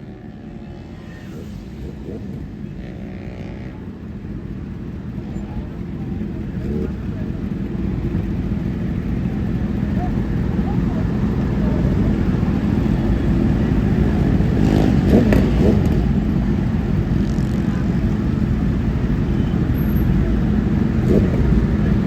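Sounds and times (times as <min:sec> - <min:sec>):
motorcycle engine rumble: 0:00.0 - 0:22.0.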